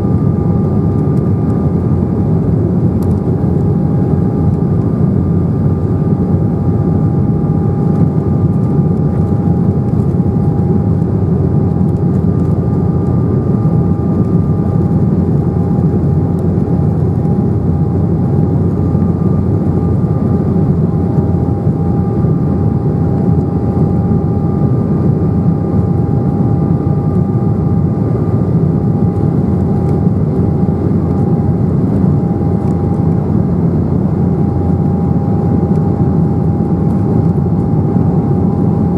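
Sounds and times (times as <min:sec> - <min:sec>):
jet engine and airflow drone: 0:00.0 - 0:38.9.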